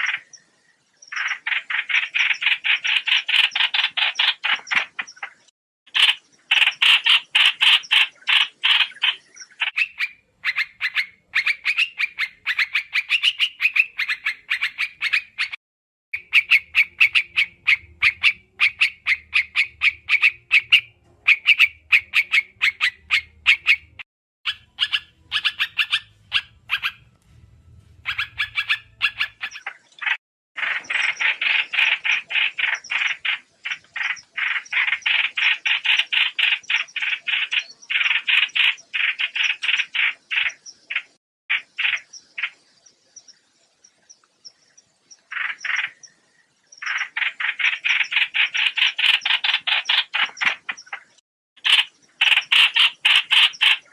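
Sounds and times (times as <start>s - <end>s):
bird sharp chirps: 0.0s - 15.6s, 16.2s - 53.9s.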